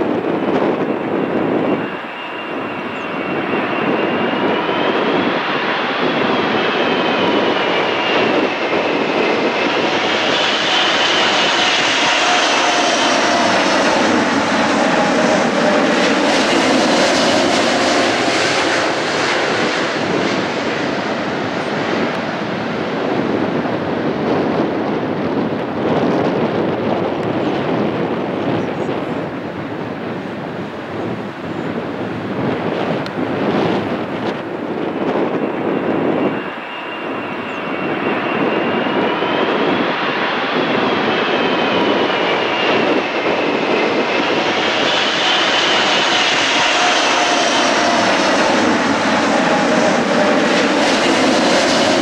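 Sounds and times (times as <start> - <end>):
high jet engine whine: 0.0 - 52.0
jet engines roaring: 0.0 - 52.0.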